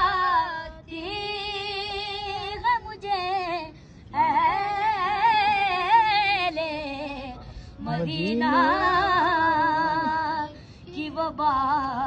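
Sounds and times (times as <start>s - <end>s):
boy singing unaccompanied: 0.0s - 12.0s.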